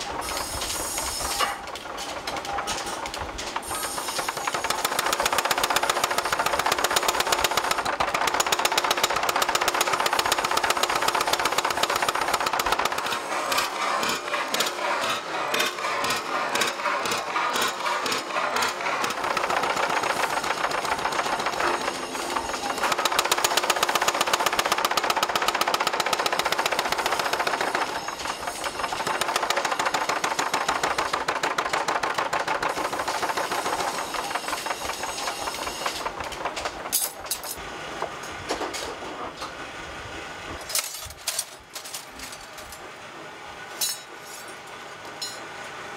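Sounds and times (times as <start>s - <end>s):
power hammer pounding iron: 0.0s - 37.6s.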